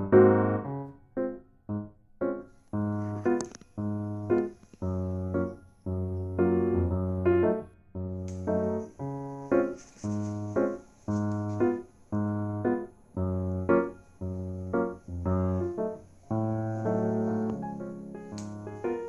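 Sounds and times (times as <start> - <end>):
bouncy keyboard tune: 0.0 - 19.0.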